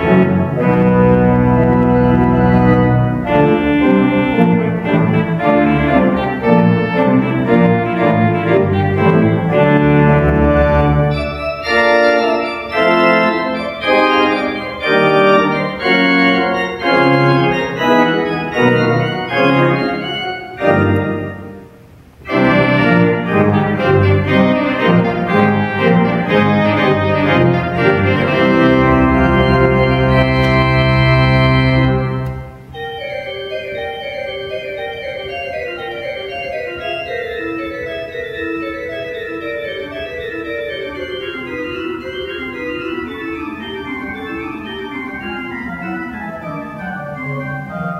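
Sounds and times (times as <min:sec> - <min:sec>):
low organ pedal note: 0:00.0 - 0:21.6, 0:22.3 - 0:47.8
pipe organ chords: 0:00.0 - 0:47.9.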